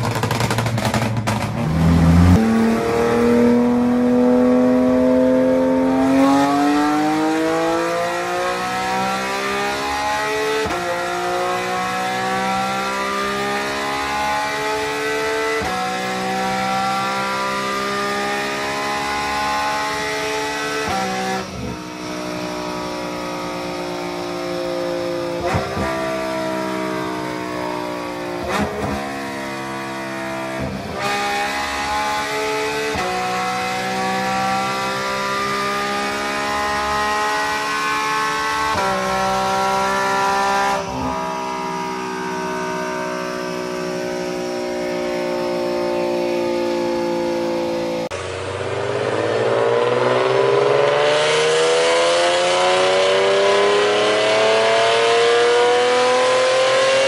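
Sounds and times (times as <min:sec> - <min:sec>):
car engine pulling on dyno: 0:00.0 - 0:57.0
car engine revving under load: 0:00.0 - 0:57.0.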